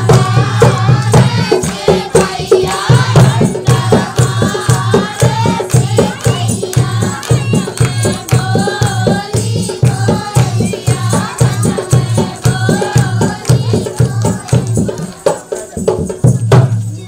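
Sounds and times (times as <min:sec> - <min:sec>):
quick drum beat: 0:00.0 - 0:17.0.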